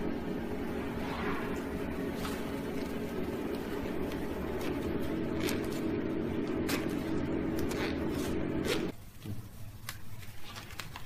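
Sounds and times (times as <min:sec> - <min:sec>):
welding machine electrical hum: 0:00.0 - 0:11.0.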